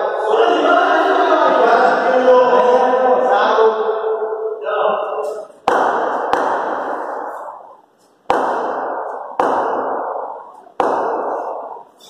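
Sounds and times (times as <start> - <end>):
sharp bangs echoing in hall: 0.0 - 12.0.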